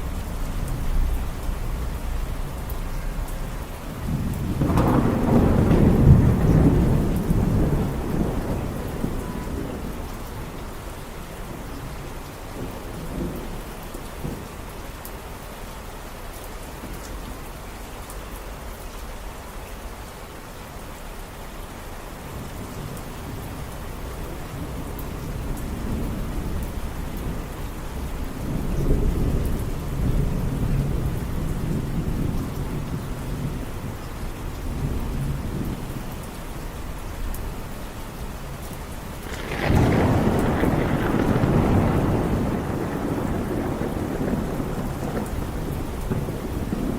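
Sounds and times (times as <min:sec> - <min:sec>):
thunder rumbling: 0:00.0 - 0:14.6, 0:22.6 - 0:46.9
steady rain falling: 0:00.0 - 0:46.9.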